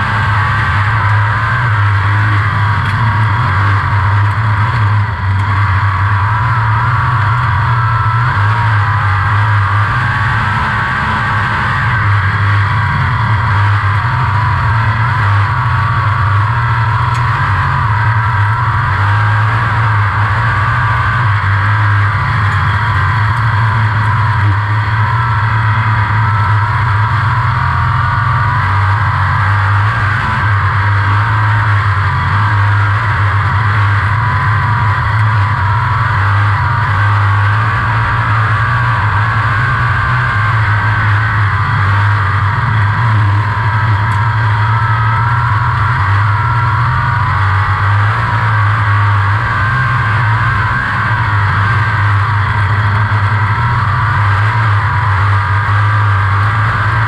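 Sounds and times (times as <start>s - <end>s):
race car engine droning: 0.0s - 57.0s.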